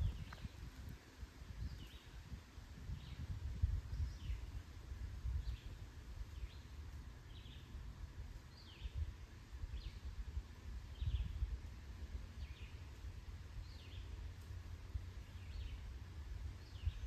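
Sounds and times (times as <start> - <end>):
low microphone rumble: 0.0 - 17.0.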